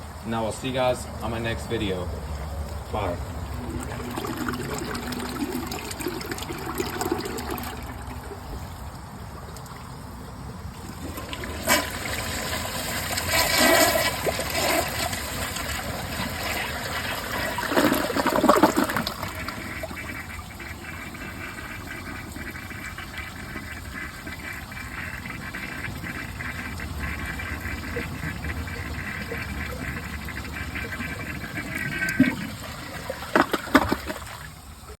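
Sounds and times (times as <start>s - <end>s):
toilet flushing water rush: 0.0s - 35.0s.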